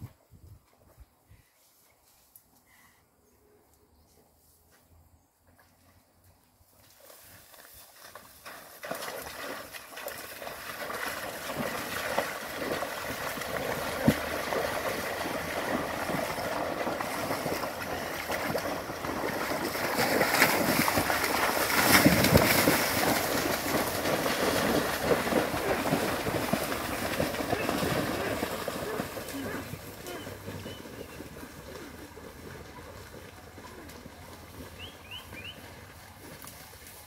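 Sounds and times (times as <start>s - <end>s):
water and mud sloshing: 7.0s - 37.0s.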